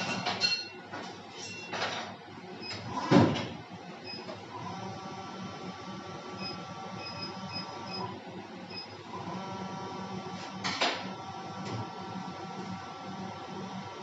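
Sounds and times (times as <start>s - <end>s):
injection molding machine humming: 2.4s - 14.0s.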